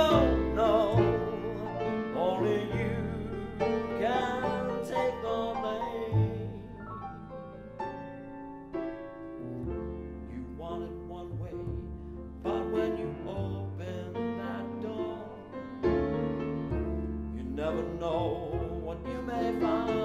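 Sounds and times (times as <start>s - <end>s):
long bass notes: 0.0s - 20.0s
piano notes and chords: 0.0s - 20.0s.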